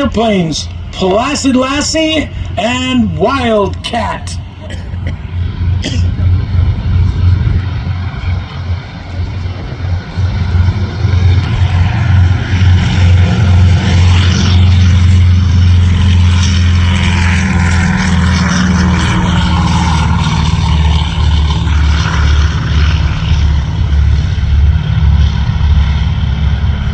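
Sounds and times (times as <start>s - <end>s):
propeller aircraft engines droning: 0.0s - 26.9s.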